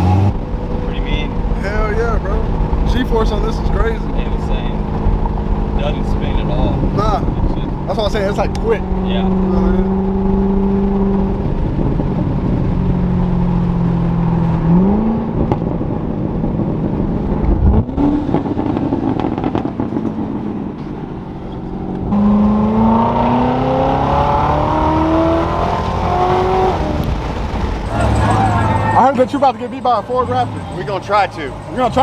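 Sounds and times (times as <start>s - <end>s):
car engine accelerating hard: 0.0s - 32.0s
wind noise: 0.1s - 29.0s.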